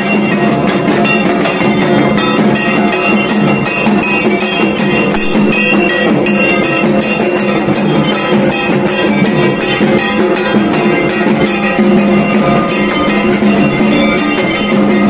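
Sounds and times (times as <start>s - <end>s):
drums beating a steady rhythm: 0.0s - 15.0s
ringing metallic tones: 0.0s - 15.0s.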